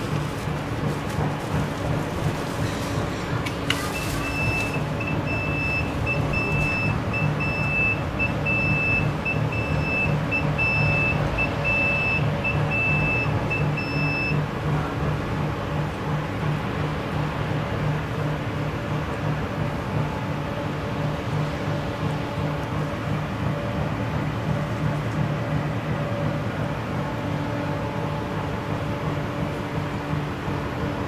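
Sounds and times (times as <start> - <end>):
tram low pulsing hum: 0.0 - 31.0.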